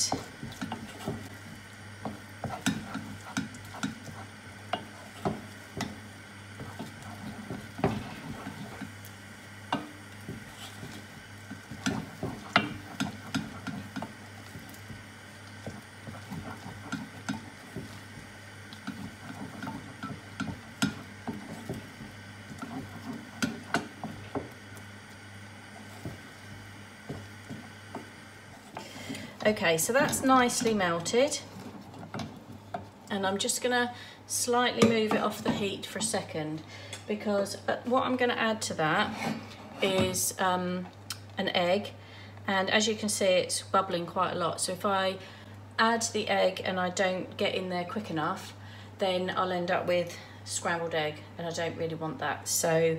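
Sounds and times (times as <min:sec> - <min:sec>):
soft sizzle: 0:00.0 - 0:52.9.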